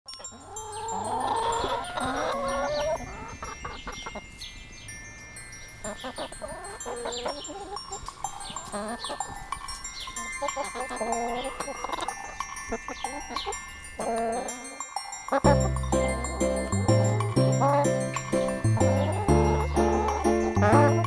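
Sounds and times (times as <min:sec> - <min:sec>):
hens clucking: 0:00.2 - 0:04.3, 0:05.9 - 0:21.0.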